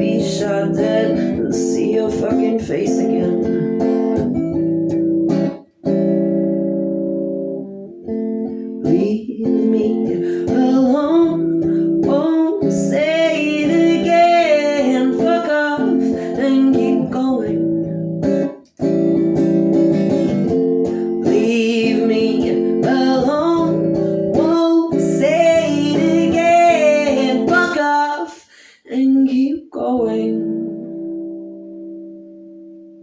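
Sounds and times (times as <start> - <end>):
person singing: 0.0 - 4.6, 8.5 - 18.6, 20.0 - 31.9.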